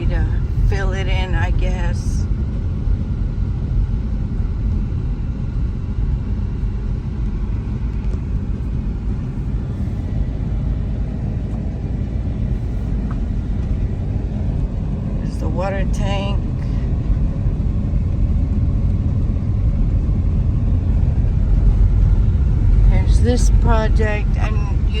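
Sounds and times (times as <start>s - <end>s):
engine and tyre rumble: 0.0s - 25.0s.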